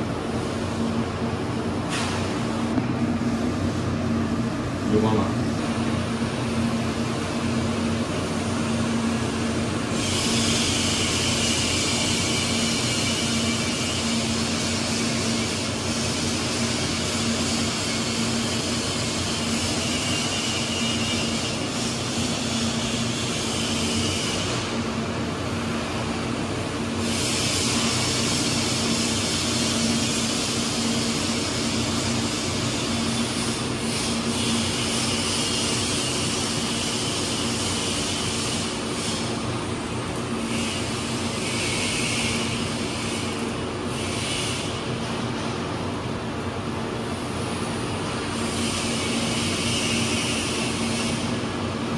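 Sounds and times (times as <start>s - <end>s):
hissing fan noise: 0.0s - 51.9s
machinery hum: 0.0s - 51.9s.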